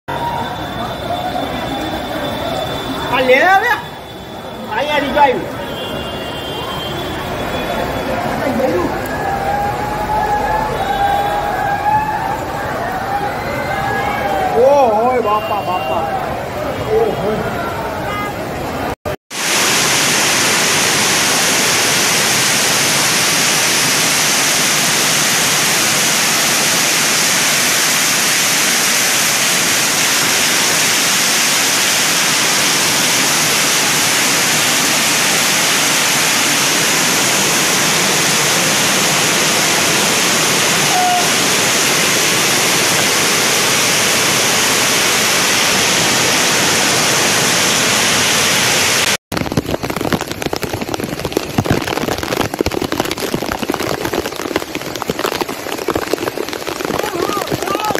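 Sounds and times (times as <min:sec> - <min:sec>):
floodwater rushing: 0:00.1 - 0:57.9.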